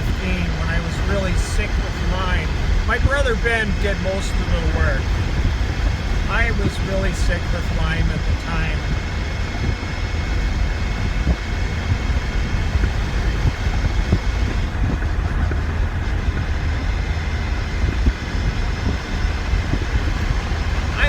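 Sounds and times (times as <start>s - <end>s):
vehicle cab road rumble: 0.0s - 21.0s.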